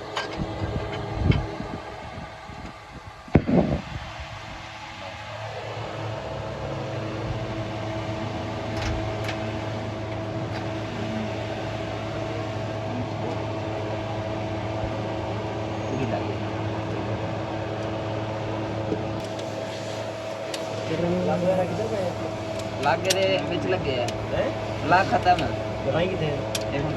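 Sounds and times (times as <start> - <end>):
machine hum: 0.0 - 26.9.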